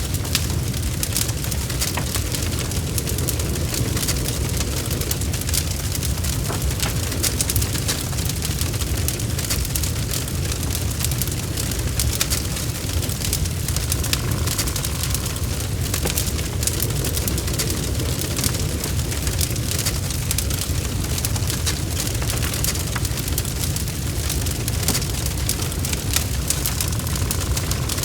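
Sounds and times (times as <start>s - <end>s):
fire crackling in fireplace: 0.0s - 28.0s.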